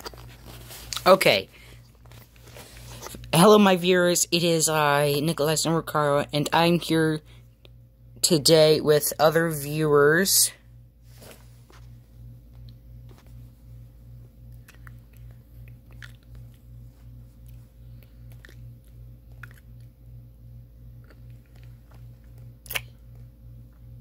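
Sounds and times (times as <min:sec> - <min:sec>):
low pulsing hum: 0:00.0 - 0:24.0.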